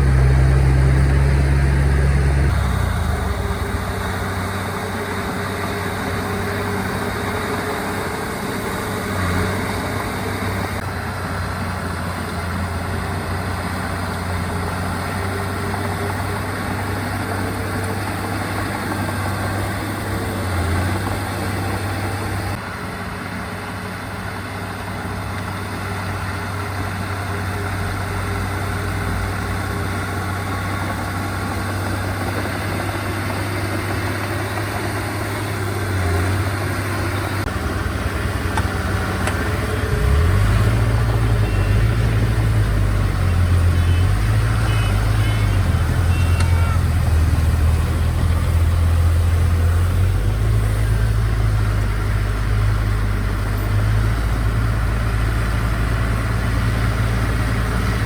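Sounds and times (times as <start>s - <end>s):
diesel engine of earthmoving machine: 0.0s - 58.0s.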